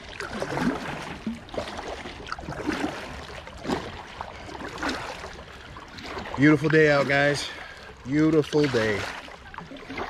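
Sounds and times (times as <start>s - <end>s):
paddle dipping into water: 0.0s - 10.0s
water dripping off paddle blades: 0.0s - 10.0s.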